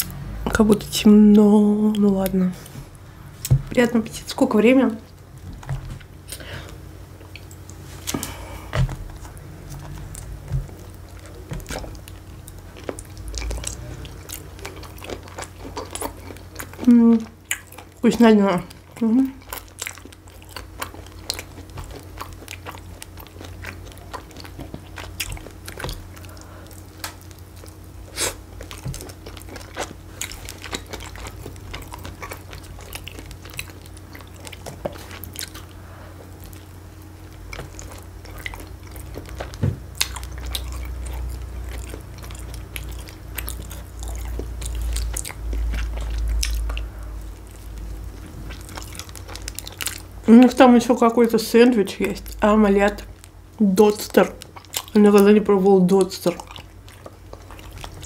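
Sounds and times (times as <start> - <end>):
chewing and crunching pizza: 0.0 - 58.0.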